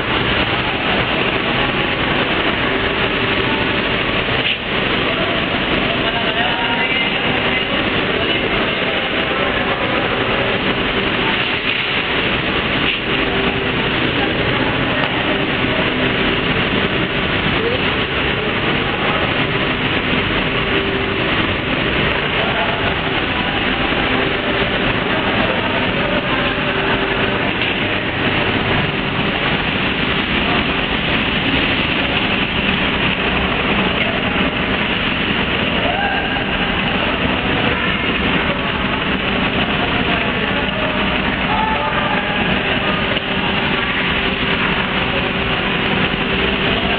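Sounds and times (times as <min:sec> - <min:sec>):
industrial machinery running: 0:00.0 - 0:46.9.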